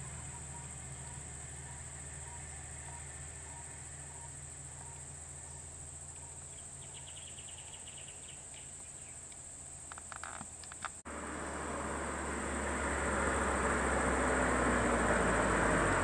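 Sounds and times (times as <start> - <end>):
insect chirps: 0.0 - 16.0
insects droning: 0.0 - 16.0.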